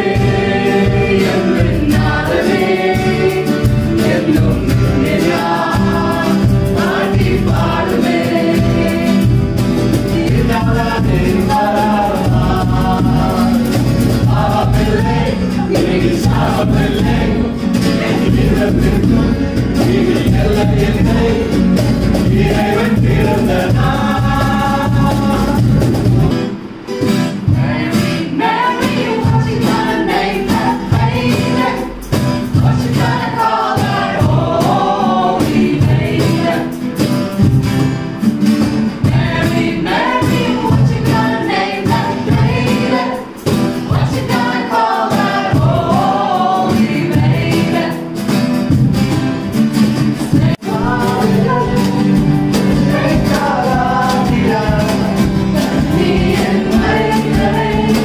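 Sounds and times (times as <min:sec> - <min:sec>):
group singing a carol: 0:00.0 - 0:58.0
strummed guitar: 0:00.0 - 0:58.0.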